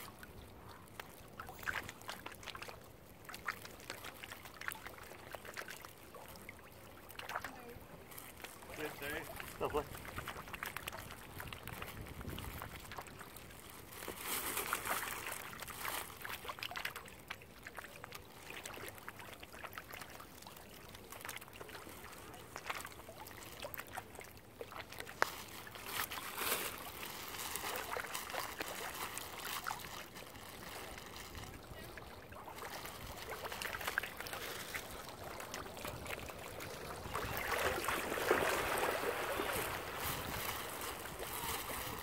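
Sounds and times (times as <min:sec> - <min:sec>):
water splashing and sloshing: 0:00.0 - 0:42.0.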